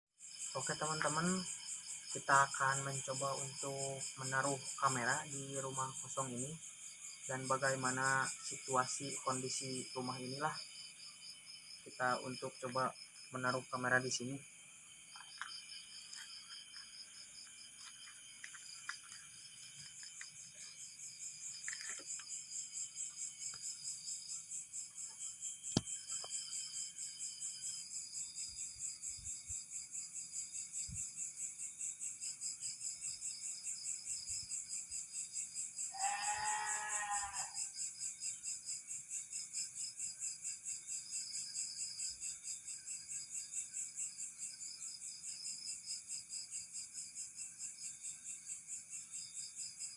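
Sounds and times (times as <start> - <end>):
crickets chirping: 0.2 - 49.9.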